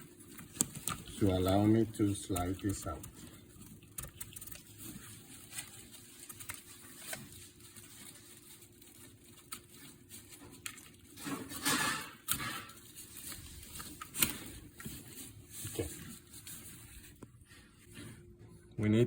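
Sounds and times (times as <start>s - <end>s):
blind parts clicking and rustling: 0.0s - 17.4s.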